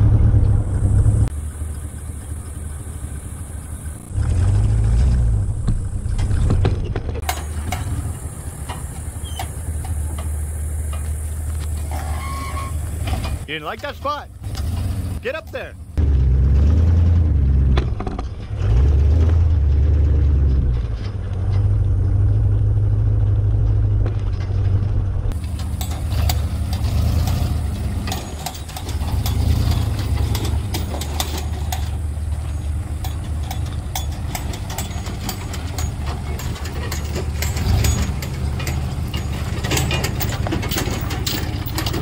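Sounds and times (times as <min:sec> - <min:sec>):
truck engine running low: 0:00.0 - 0:42.0.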